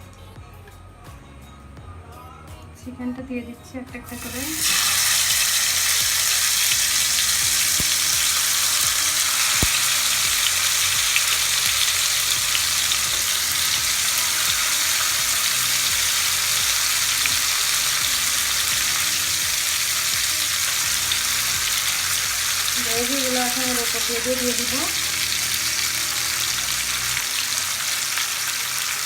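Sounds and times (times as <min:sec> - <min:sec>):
chicken sizzling in hot oil: 0:04.1 - 0:29.0.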